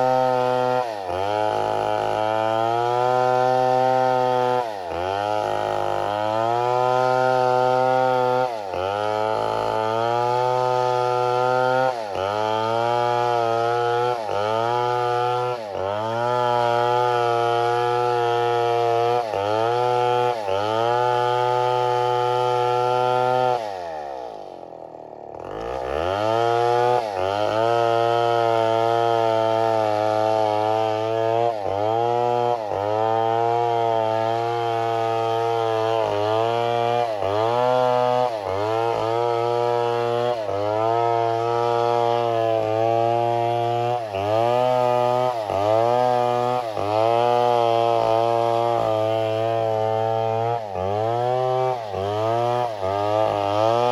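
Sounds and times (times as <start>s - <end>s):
chainsaw cutting at high revs: 0.0s - 53.9s.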